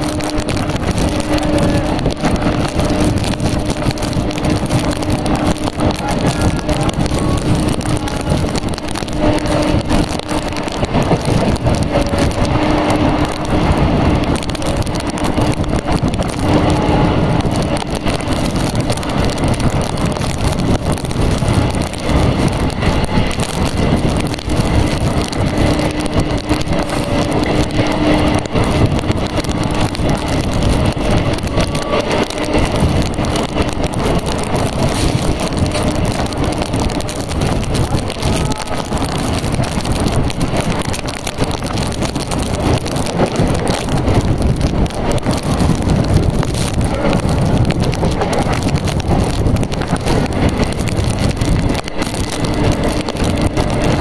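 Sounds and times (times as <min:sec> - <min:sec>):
train wheel and rail noise: 0:00.0 - 0:54.0
wind rush: 0:00.0 - 0:54.0.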